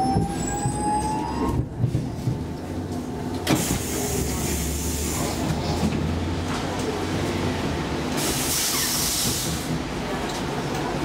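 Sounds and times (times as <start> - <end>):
train running hum: 0.0 - 11.0.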